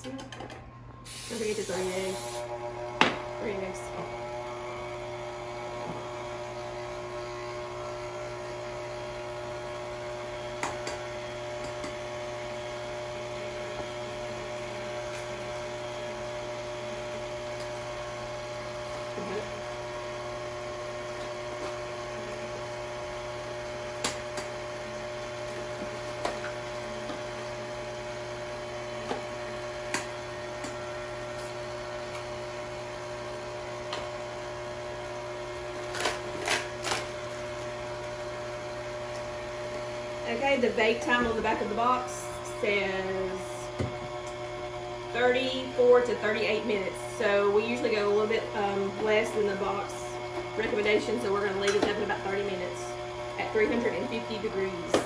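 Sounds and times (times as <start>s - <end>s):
electrical hum: 0.6s - 55.0s.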